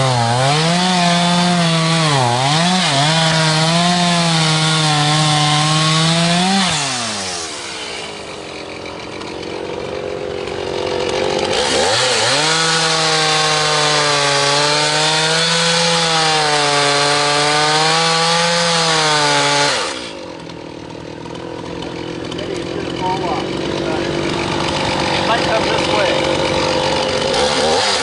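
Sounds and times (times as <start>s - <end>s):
chainsaw idling and cutting wood: 0.0s - 28.0s.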